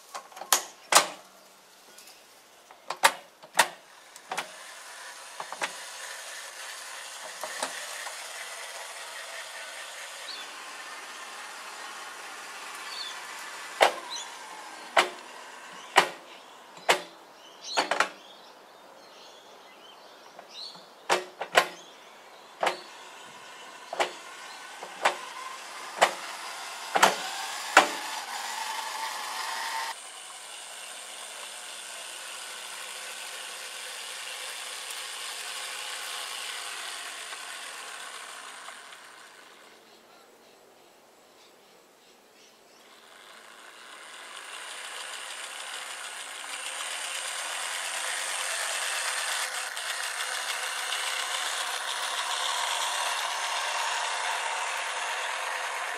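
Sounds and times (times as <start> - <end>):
electric motor hum: 0.0 - 18.3, 19.1 - 40.0, 42.8 - 55.9
wheels clicking on rails: 1.9 - 18.2, 20.4 - 40.0, 42.8 - 55.9.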